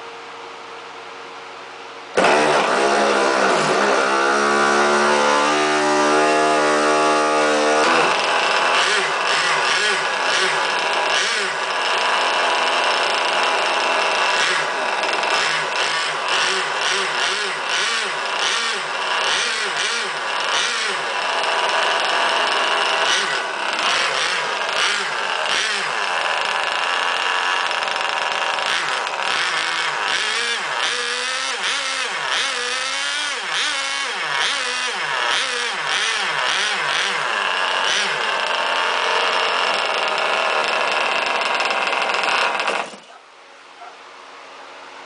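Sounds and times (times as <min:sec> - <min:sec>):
model boat engine revving: 0:02.2 - 0:43.1.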